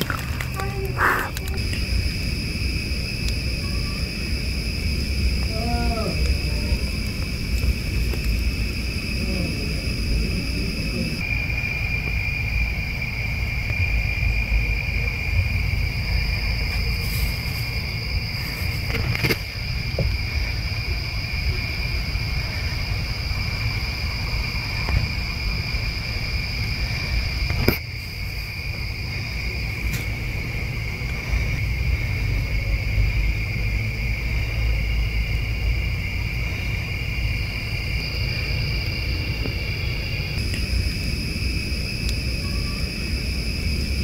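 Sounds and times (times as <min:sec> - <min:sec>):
insects trilling: 0:00.0 - 0:44.0
low steady rumble: 0:00.0 - 0:44.0.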